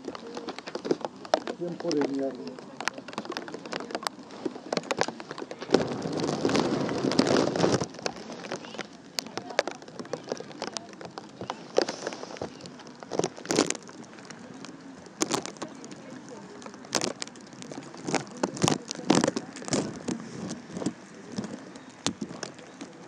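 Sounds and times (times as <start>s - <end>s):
faint voices: 0.0s - 23.0s
raindrops tapping close by: 0.0s - 23.0s.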